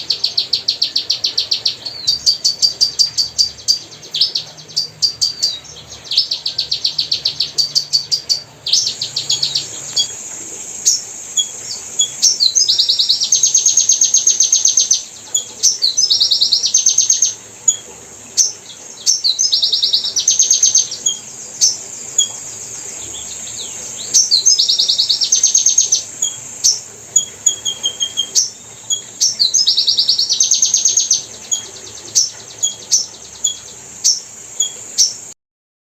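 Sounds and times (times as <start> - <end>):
small bird chirping trills: 0.0 - 35.4.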